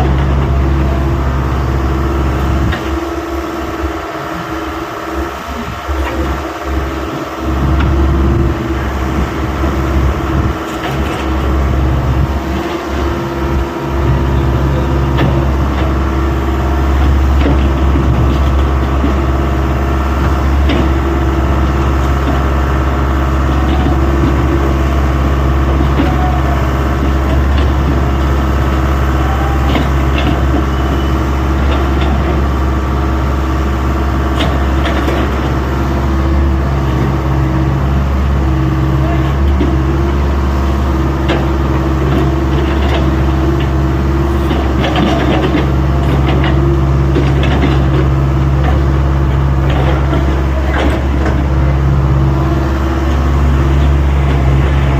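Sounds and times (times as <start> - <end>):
diesel engine humming: 0.0 - 54.9.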